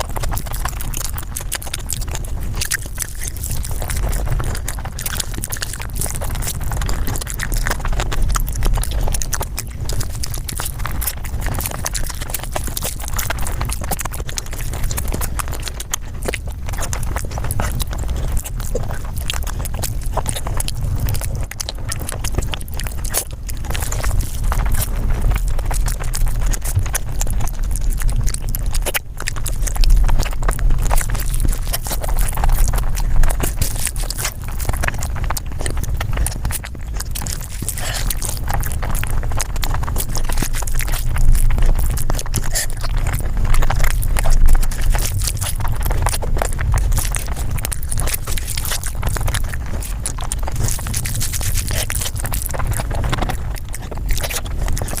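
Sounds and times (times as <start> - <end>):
low rumble: 0.0 - 55.0
rapid chewing and crunching: 0.0 - 55.0.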